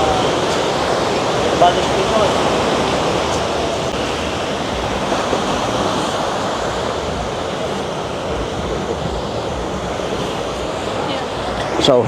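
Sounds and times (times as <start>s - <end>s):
ocean surf breaking on beach: 0.0s - 12.0s
wind buffeting microphone: 0.0s - 12.0s.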